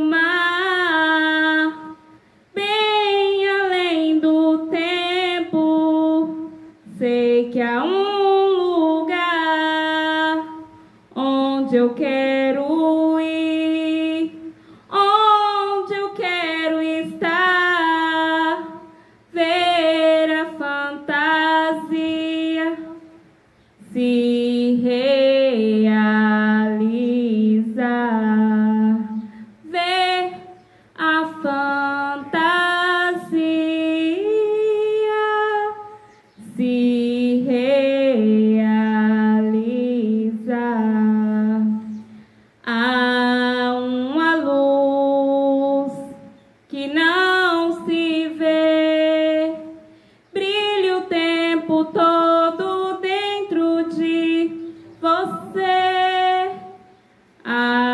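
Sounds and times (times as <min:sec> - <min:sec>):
woman singing unaccompanied: 0:00.0 - 0:57.9.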